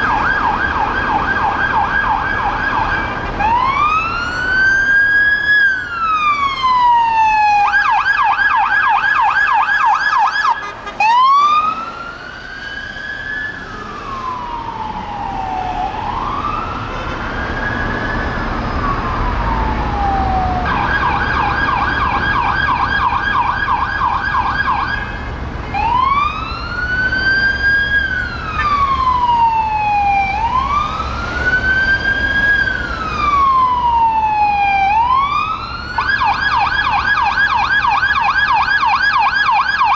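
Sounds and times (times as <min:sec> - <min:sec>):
car engine and road noise: 0:00.0 - 0:39.9
police siren wail and yelp: 0:00.0 - 0:39.9.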